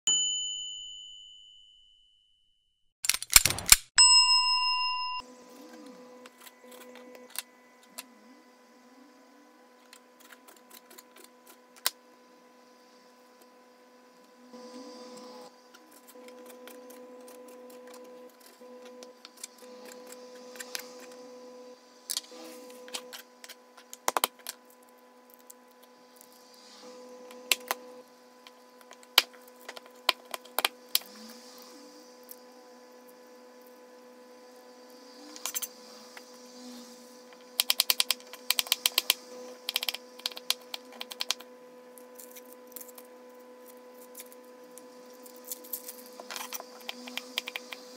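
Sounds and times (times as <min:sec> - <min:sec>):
steady hum: 0:05.2 - 0:47.9.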